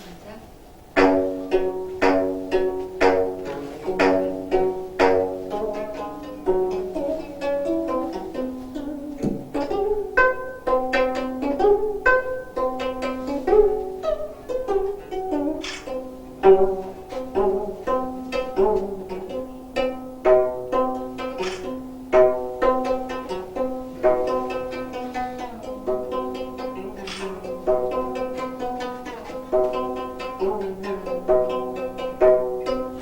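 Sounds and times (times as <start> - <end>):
plucked zither notes: 0.9 - 33.0.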